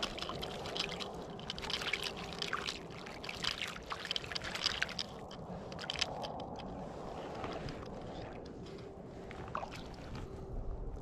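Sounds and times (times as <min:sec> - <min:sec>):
water splashing and trickling: 0:00.0 - 0:10.2.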